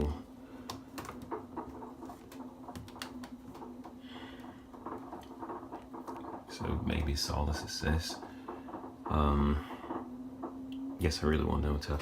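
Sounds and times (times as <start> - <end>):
light patter and clicks: 0.0 - 12.0
washing machine hum: 0.0 - 12.0.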